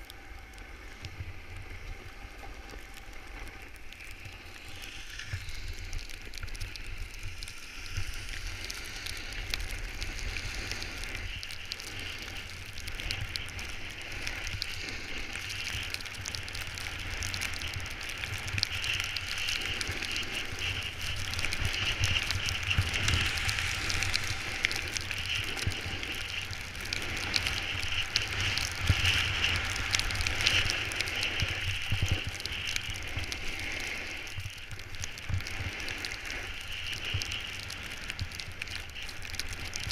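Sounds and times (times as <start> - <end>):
wind rumbling on microphone: 0.0 - 39.9
snowboard scraping over snow: 0.2 - 39.9.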